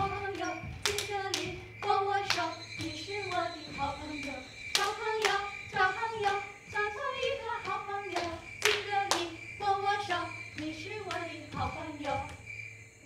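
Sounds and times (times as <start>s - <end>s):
hand claps: 0.0s - 9.4s, 10.1s - 12.4s
high voice singing: 0.0s - 12.4s.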